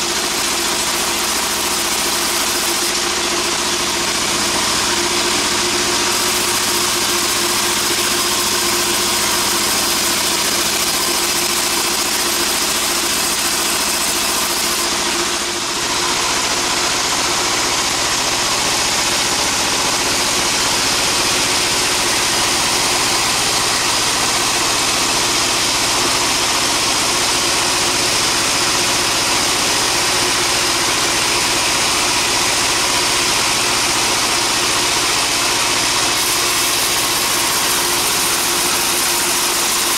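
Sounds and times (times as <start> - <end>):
sawmill machinery engine running: 0.0 - 39.9.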